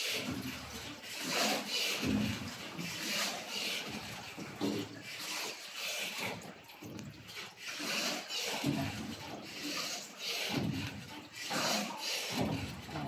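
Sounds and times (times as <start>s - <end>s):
oars splashing through water: 0.0s - 13.0s.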